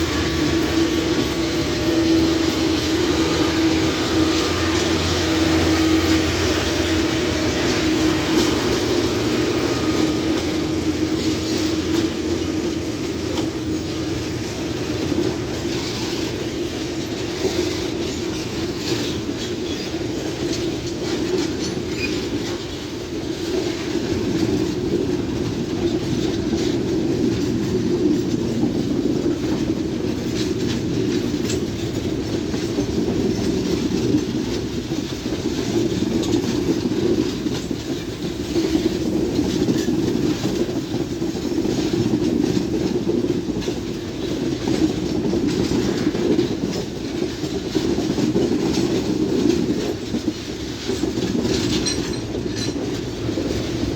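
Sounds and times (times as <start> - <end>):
train wheels rumbling on rails: 0.0 - 53.9
wheels clicking over rail joints: 0.0 - 53.9.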